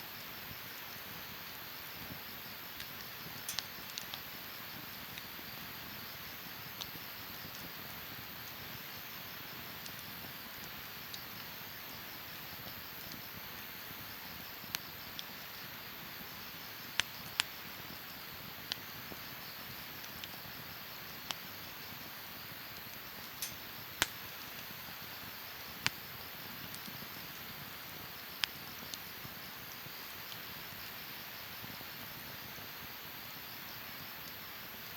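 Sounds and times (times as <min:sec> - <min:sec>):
campfire crackling: 0:00.1 - 0:34.9.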